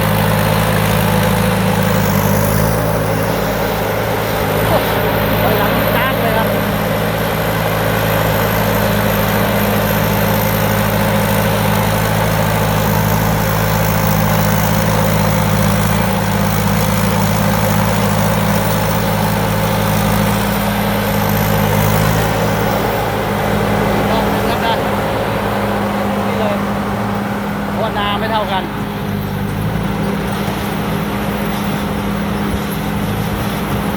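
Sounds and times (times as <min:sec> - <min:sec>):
combine harvester diesel engine running: 0:00.0 - 0:33.9.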